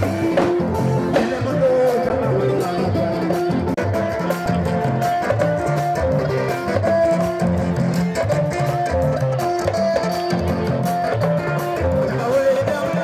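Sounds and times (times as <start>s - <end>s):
bass line: 0.0s - 13.0s
plucked-string melody: 0.0s - 13.0s.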